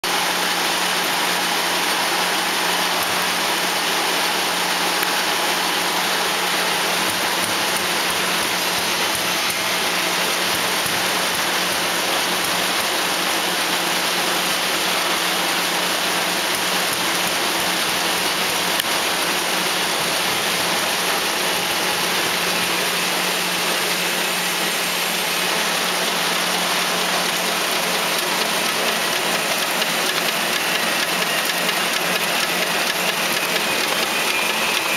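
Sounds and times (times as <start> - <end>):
printing press running: 0.0 - 34.9.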